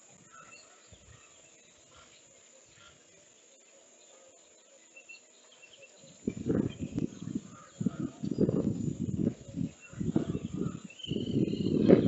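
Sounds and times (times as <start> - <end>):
faint outdoor ambience: 0.0 - 12.0
soft bird chirps: 0.0 - 12.0.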